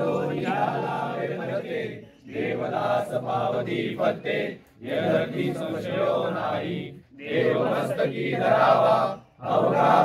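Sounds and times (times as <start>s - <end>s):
group of voices chanting prayer: 0.0s - 10.0s.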